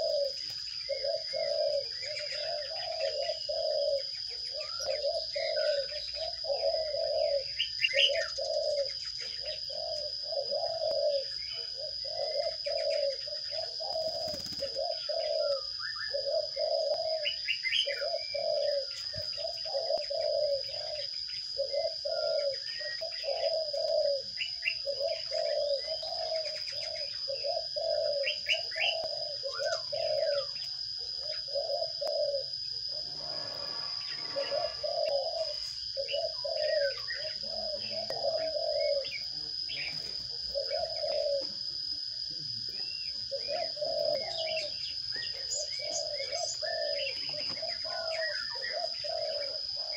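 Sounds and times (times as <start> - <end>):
low cooing bird: 0.0 - 49.9
steady high-pitched whine: 0.0 - 49.9.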